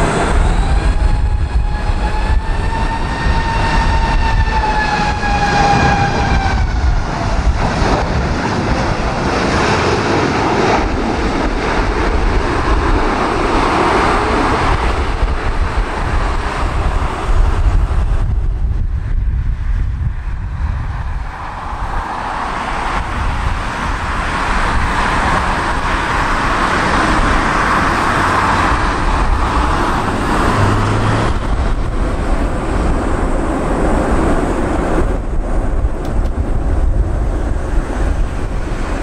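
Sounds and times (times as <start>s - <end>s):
jet engines roaring: 0.0s - 39.0s
wind rumble on microphone: 0.0s - 39.0s.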